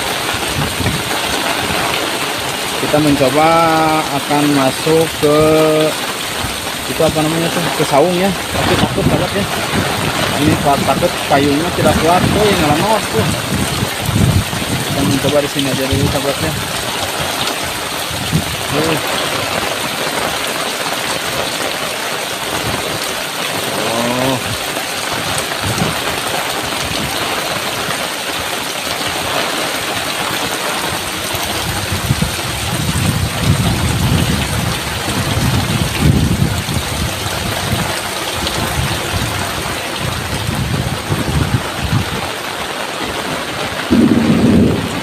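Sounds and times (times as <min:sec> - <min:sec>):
wind buffeting microphone: 0:00.0 - 0:20.4, 0:24.1 - 0:28.0, 0:28.9 - 0:45.0
heavy rain pouring: 0:00.0 - 0:45.0.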